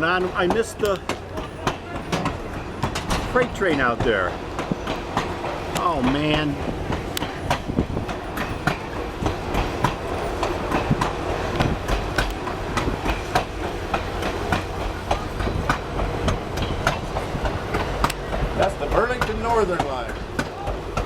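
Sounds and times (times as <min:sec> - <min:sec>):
train rumbling on rails: 0:00.0 - 0:21.0
wheels clicking over rail joints: 0:00.0 - 0:21.0.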